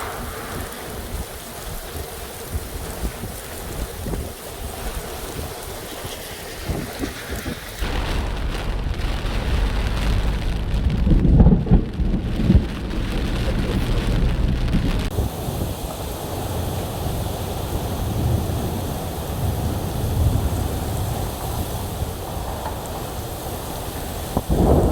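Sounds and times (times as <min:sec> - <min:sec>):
deep rumble: 0:00.0 - 0:03.6, 0:07.8 - 0:24.9
heavy rain pouring: 0:00.0 - 0:24.9.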